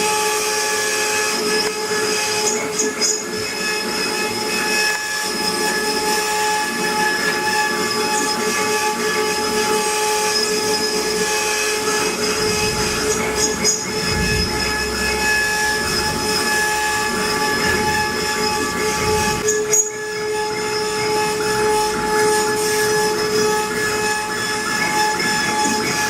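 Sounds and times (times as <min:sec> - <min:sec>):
bit cutting wood: 0:00.0 - 0:26.0
router spindle whine: 0:00.0 - 0:26.0.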